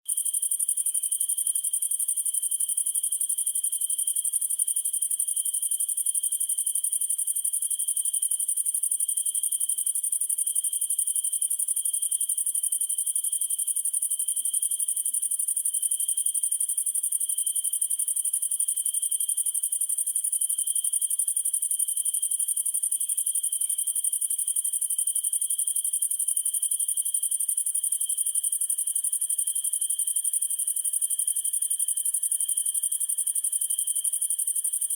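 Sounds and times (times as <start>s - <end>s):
lower continuous insect trill: 0.1s - 34.9s.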